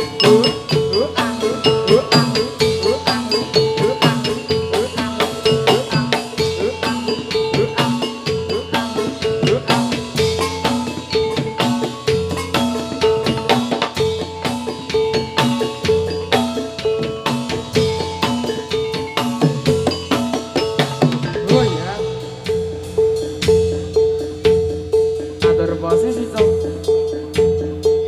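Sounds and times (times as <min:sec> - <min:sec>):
hand drum strokes: 0:00.0 - 0:28.0
metal mallet instruments ringing: 0:00.0 - 0:28.0.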